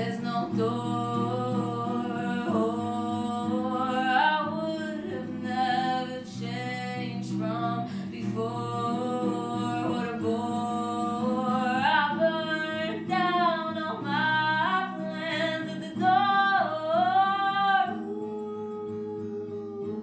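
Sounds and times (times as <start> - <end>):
acoustic guitar: 0.0 - 20.0.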